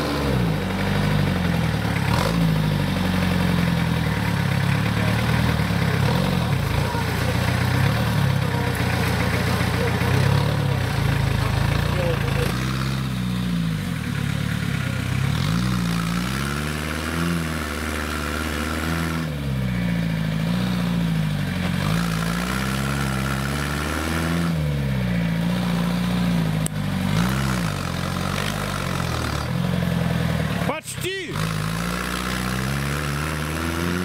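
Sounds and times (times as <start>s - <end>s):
tractor engine revving: 0.0s - 34.0s.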